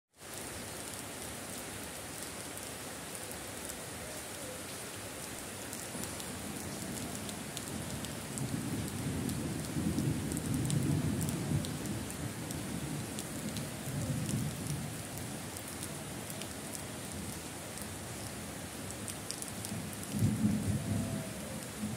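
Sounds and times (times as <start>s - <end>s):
rain on concrete and plants: 0.1s - 21.9s.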